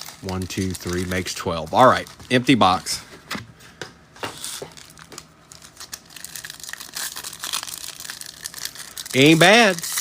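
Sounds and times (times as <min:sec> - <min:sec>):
foil wrapper crinkling and tearing: 0:00.0 - 0:02.9, 0:04.3 - 0:10.0.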